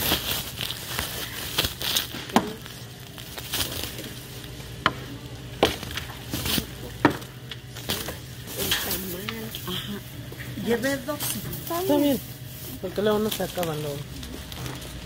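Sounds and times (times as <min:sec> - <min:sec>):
plastic bag rustling: 0:00.0 - 0:15.0
steady low hum: 0:00.0 - 0:15.0.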